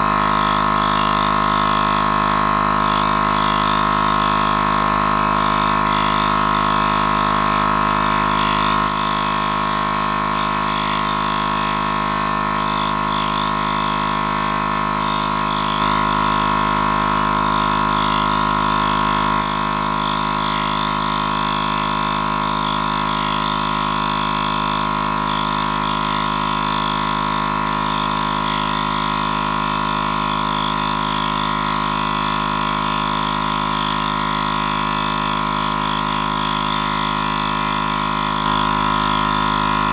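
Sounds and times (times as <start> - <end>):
air compressor pump running: 0.0 - 39.9.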